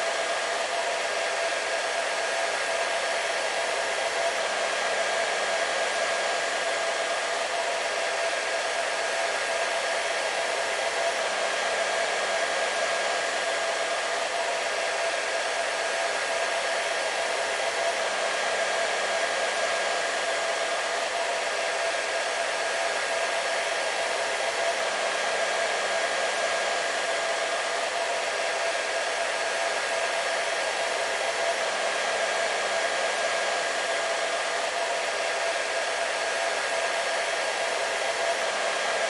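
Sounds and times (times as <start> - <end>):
hair dryer running: 0.0 - 39.0.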